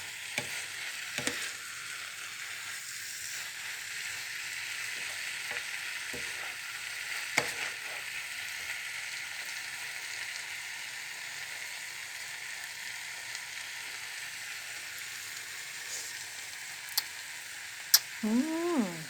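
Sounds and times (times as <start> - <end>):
cabbage sizzling in a pan: 0.0 - 19.0.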